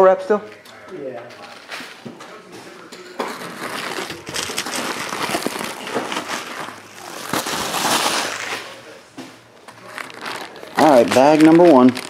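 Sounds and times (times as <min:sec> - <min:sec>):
bubble wrap and plastic bag crinkling: 0:01.3 - 0:09.0, 0:09.6 - 0:12.0.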